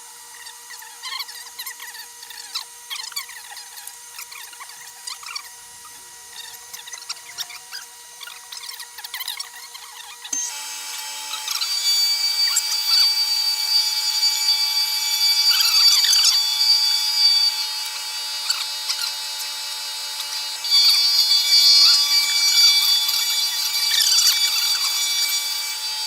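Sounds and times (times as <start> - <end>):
milling machine cutting wood: 0.0 - 26.0.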